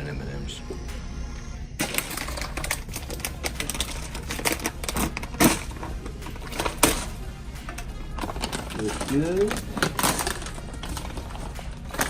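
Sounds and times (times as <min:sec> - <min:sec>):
hard candy clattering into container: 0:01.8 - 0:12.0.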